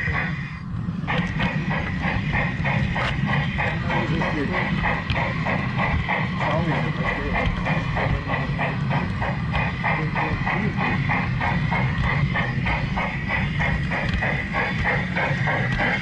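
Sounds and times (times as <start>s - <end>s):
model train motor and wheel whine: 0.0s - 16.0s.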